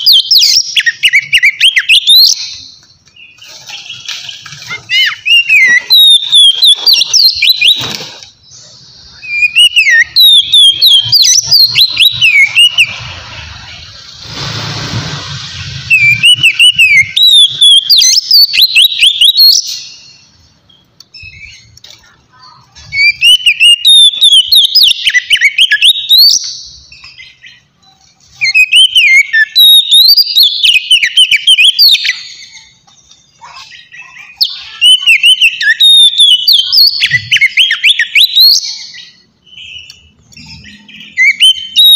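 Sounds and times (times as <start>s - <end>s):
bird singing whistled song: 0.0s - 13.6s, 15.8s - 20.4s, 22.8s - 41.9s.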